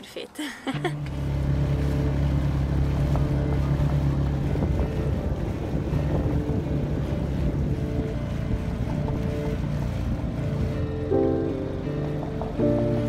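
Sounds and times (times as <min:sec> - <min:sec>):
water noise: 0:00.0 - 0:13.0
wind: 0:00.0 - 0:13.0
outboard motor running: 0:00.7 - 0:13.0.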